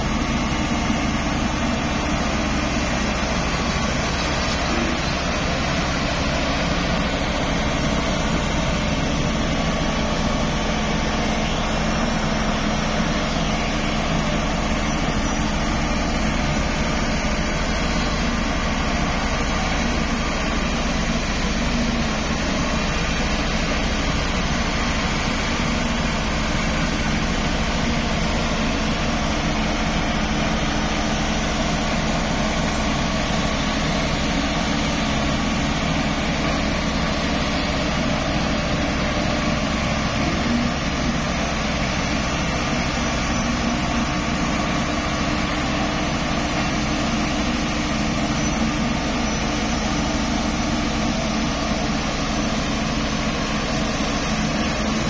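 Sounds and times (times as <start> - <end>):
road roller diesel engine running: 0.0 - 55.0.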